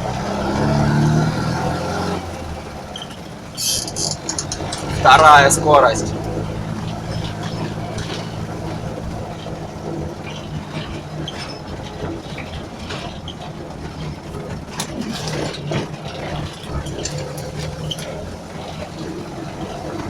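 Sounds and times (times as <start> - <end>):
car engine pulling: 0.0 - 20.0
car rattles and clicks: 0.4 - 20.0.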